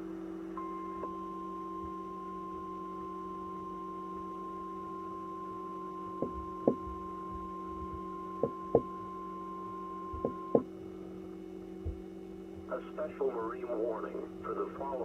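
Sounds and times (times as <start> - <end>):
steady low hum: 0.0 - 15.0
steady high warning beep: 0.5 - 12.9.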